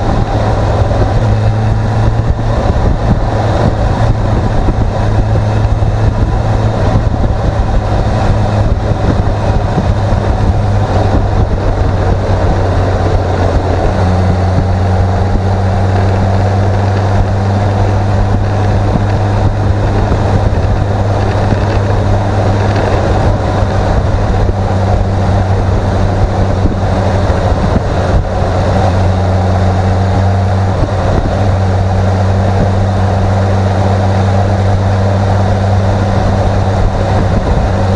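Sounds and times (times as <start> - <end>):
motorcycle engine cruising: 0.0 - 37.9
wind rush on microphone: 0.0 - 37.9.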